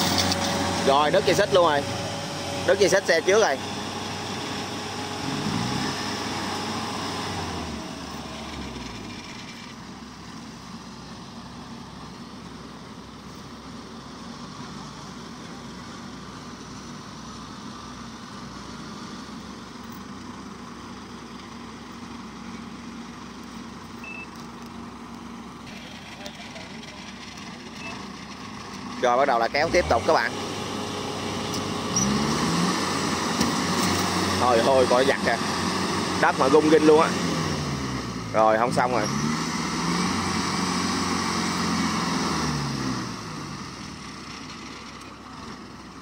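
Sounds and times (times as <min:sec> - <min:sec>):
tractor engine running: 0:00.0 - 0:42.4
combine harvester engine running: 0:00.0 - 0:46.0.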